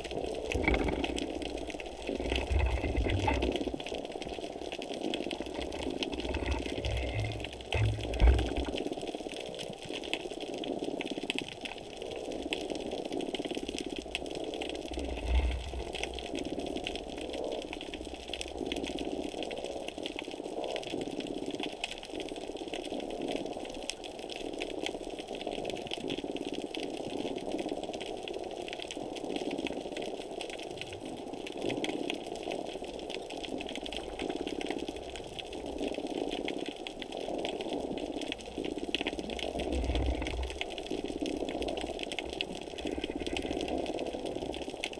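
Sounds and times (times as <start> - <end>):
crackle of tiny clicks: 0.0 - 44.9
muffled underwater water wash: 0.0 - 44.9.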